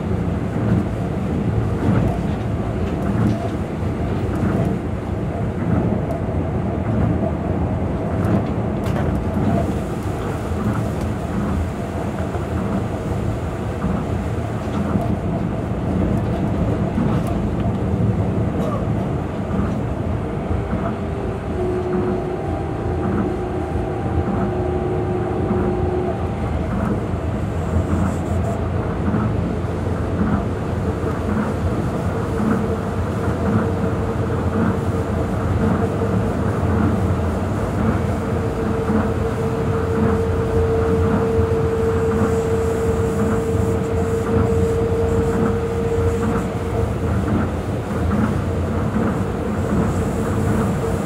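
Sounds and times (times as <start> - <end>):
train rumble on guideway: 0.0 - 51.0.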